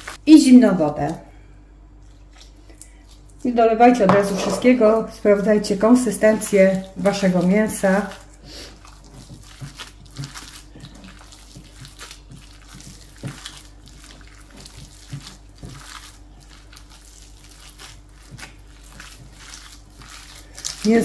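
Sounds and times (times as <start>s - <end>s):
hands kneading wet meat: 0.0s - 21.0s.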